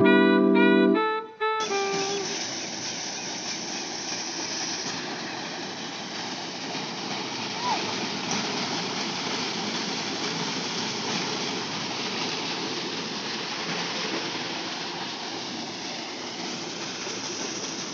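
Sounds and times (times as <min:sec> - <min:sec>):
water gushing into a tank: 0:01.7 - 0:17.9.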